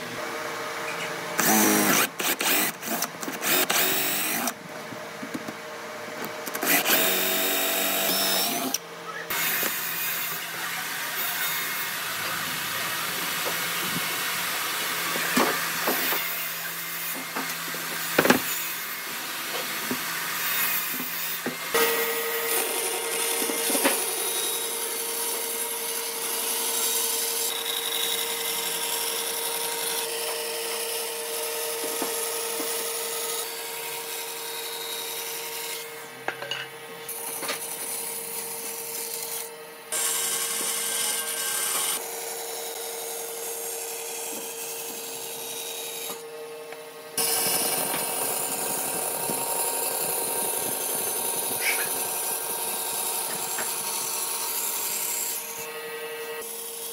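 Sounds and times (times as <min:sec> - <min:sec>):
band saw cutting wood: 0:00.0 - 0:04.6, 0:05.6 - 0:36.4, 0:37.0 - 0:56.9.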